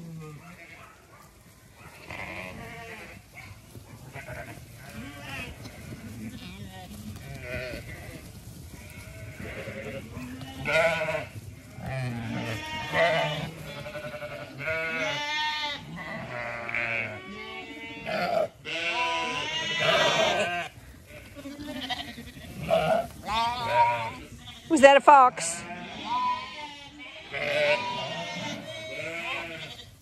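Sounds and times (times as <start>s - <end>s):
sheep bleating: 0.0s - 0.9s, 1.8s - 3.3s, 4.0s - 30.0s.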